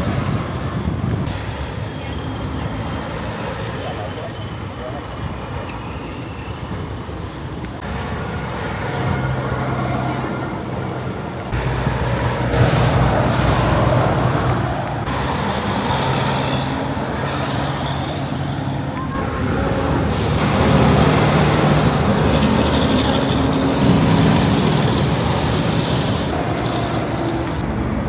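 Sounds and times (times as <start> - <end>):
truck engines droning: 0.0 - 28.0.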